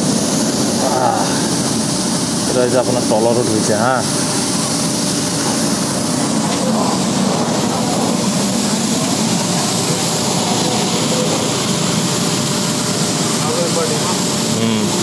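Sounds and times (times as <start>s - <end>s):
machine humming: 0.0s - 15.0s
water jets spraying: 0.0s - 15.0s.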